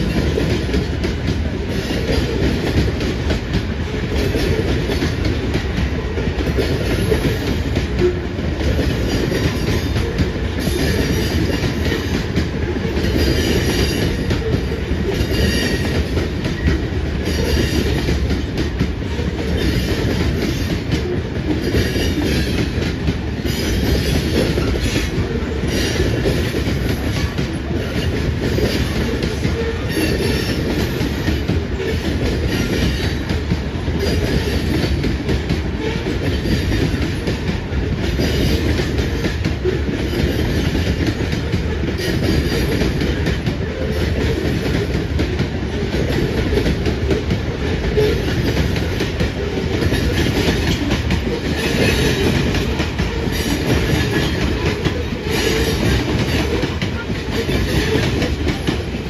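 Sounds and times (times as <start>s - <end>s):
freight train wheels rumbling: 0.0s - 59.0s
train wheels clickety-clack: 0.0s - 59.0s.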